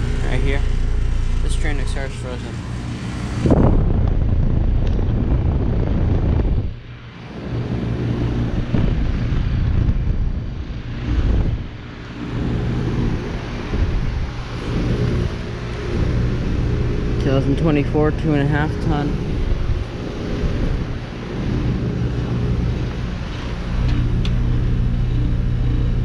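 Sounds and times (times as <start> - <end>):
compressor humming: 0.0 - 26.0
fan blowing air: 0.0 - 26.0.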